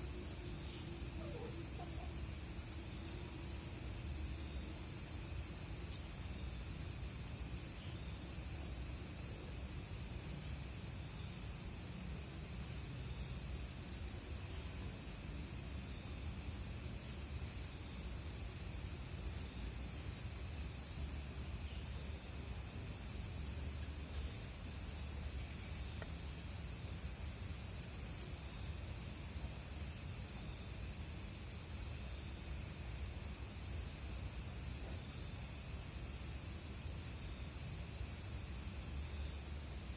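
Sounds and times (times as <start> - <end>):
insect chirping rapid pulses: 0.0 - 39.9.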